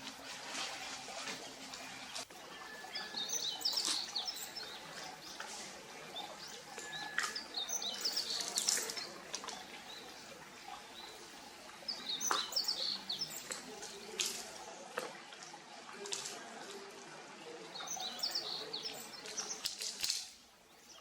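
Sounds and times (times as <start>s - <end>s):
faint outdoor background: 0.0s - 21.0s
small birds chirping: 1.0s - 14.8s, 17.6s - 21.0s.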